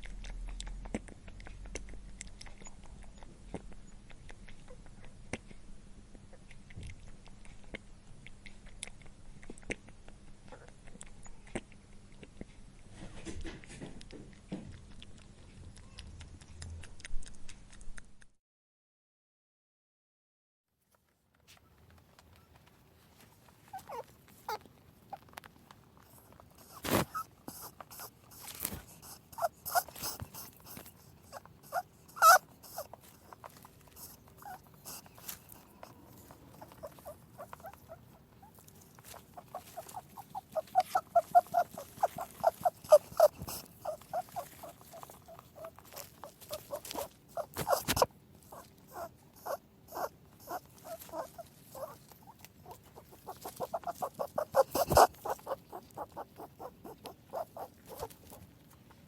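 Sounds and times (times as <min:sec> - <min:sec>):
rabbit chewing food: 0:00.0 - 0:18.4, 0:20.9 - 0:59.0.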